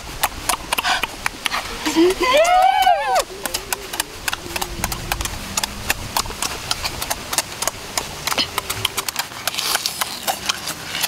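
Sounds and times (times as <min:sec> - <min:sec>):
wet lip-smacking and chewing: 0:00.0 - 0:02.2, 0:03.2 - 0:11.0.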